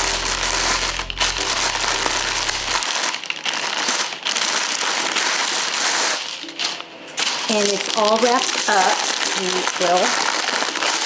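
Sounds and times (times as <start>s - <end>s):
tissue paper crinkling: 0.0s - 11.0s.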